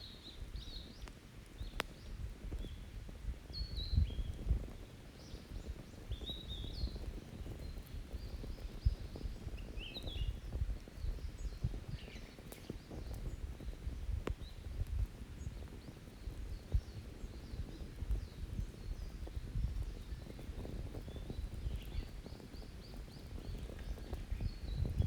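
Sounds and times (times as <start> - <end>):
small birds chirping: 0.0 - 2.9, 3.5 - 25.0
wood fire crackling and popping: 0.3 - 25.0.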